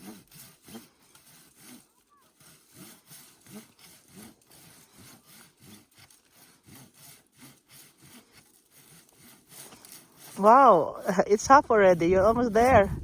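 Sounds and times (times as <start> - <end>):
hand saw cutting wood: 0.0 - 13.0.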